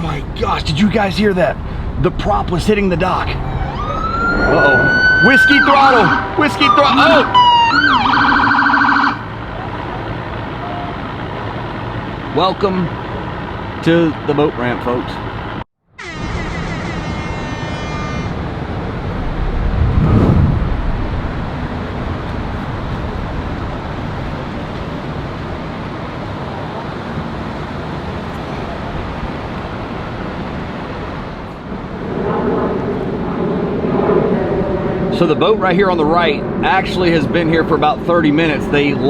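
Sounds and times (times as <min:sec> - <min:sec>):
vehicle engine noise: 0:00.0 - 0:39.0.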